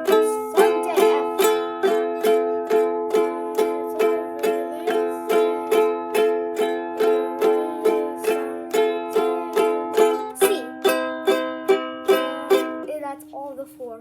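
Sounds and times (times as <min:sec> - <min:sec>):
ukulele strumming: 0:00.0 - 0:14.0.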